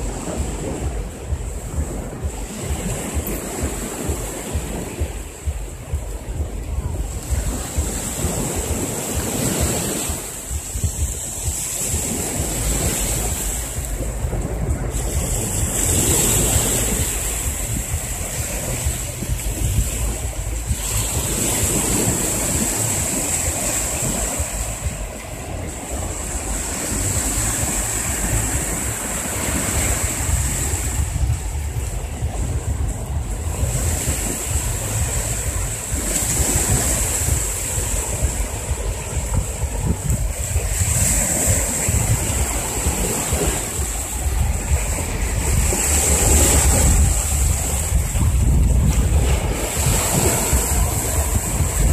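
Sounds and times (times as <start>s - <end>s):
small waves washing onto sand: 0.0s - 51.9s
wind buffeting microphone: 0.0s - 51.9s.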